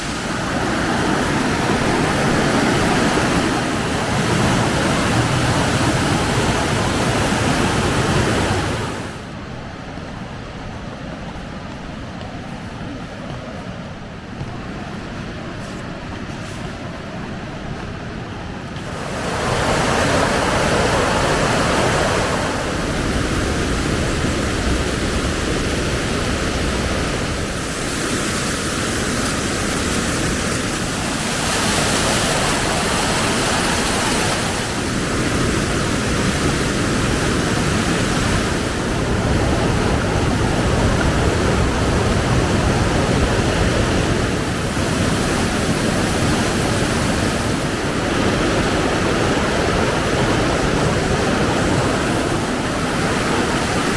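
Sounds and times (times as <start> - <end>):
waterfall rushing: 0.0 - 9.4, 18.4 - 53.9.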